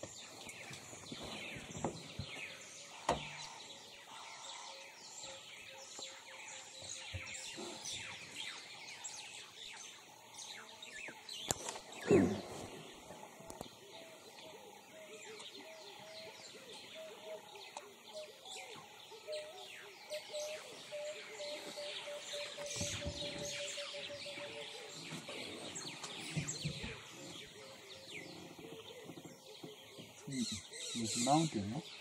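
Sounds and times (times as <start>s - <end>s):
birds chirping and calling: 0.0s - 32.0s.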